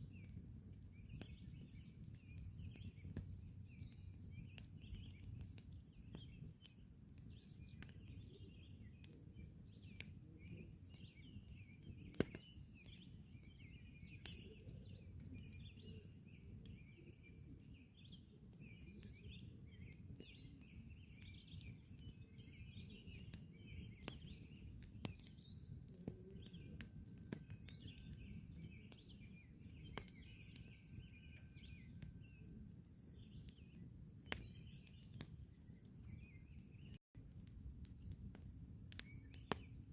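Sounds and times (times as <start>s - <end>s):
small birds chirping: 0.0s - 39.9s
campfire crackling and popping: 0.1s - 39.9s.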